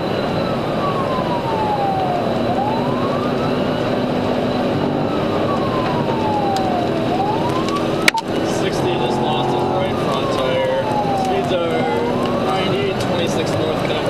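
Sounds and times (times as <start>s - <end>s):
police siren wailing: 0.0s - 14.0s
road and wind noise: 0.0s - 14.0s.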